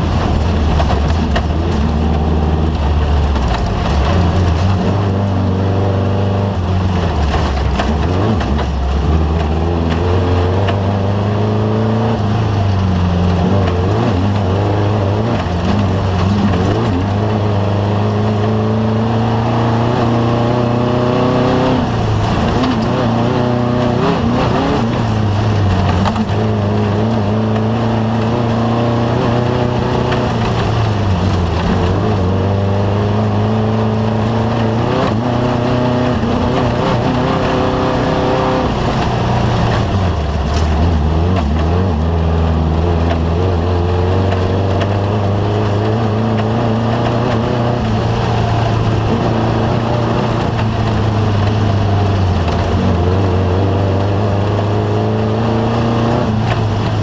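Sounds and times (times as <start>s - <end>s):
off-road vehicle engine revving: 0.0s - 57.0s
rumble of driving noise: 0.0s - 57.0s.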